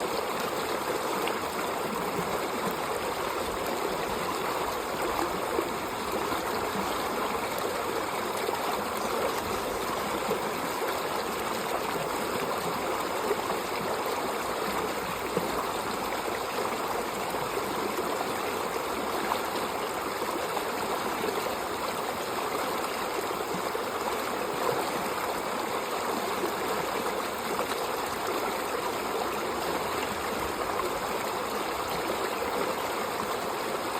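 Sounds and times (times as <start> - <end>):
stream water flowing: 0.0 - 33.9.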